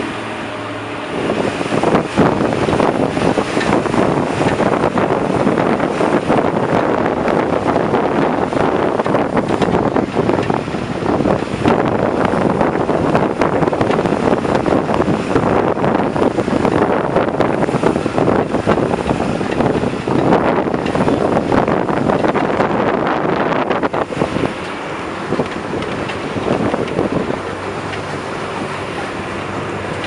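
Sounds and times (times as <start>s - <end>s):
bus road noise: 0.0s - 30.0s
wind buffeting microphone: 0.0s - 30.0s.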